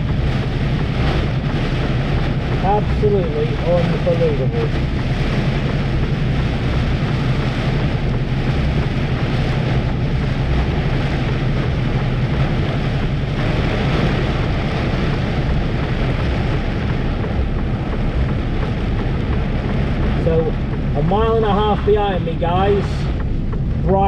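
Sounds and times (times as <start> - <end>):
diesel engine droning: 0.0 - 24.0
heavy rain and tyre spray: 0.0 - 24.0.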